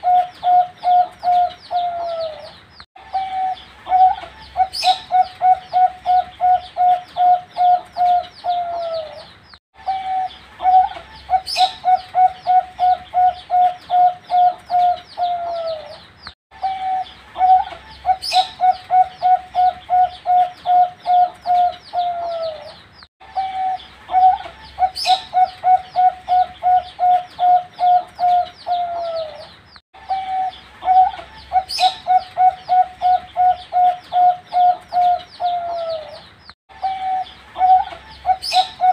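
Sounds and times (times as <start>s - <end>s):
dove cooing: 0.0s - 16.0s, 16.6s - 38.9s
high-pitched bird chirp: 0.0s - 38.9s.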